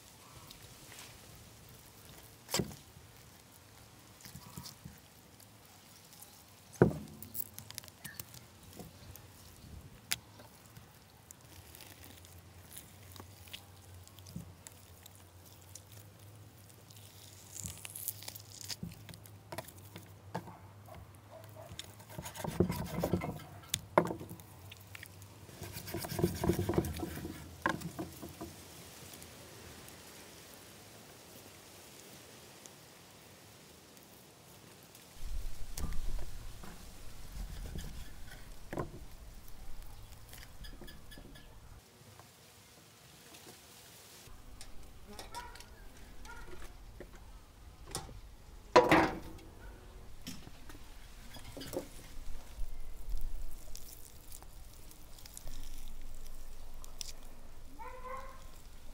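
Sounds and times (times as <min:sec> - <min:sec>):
rustling: 0:00.0 - 0:58.9.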